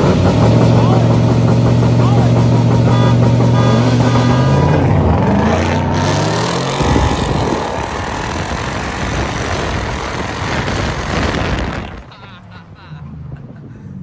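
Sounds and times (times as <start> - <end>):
car engine accelerating: 0.0 - 14.0
road noise rush: 0.0 - 14.0.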